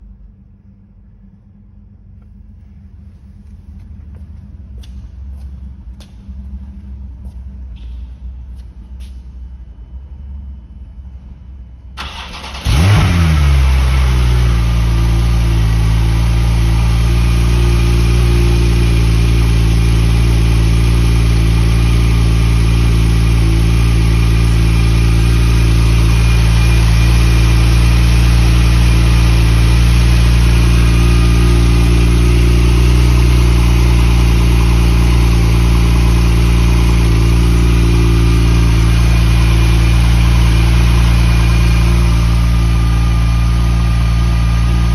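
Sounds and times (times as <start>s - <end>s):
car engine cold start and idle: 0.0s - 44.9s.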